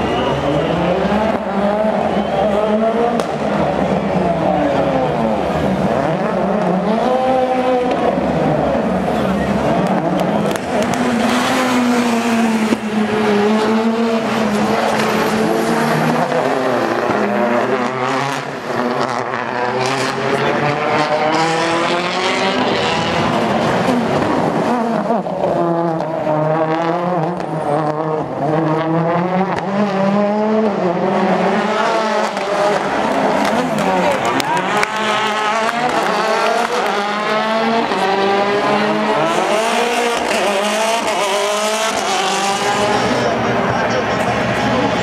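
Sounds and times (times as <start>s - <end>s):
rally car engines revving: 0.0s - 45.0s.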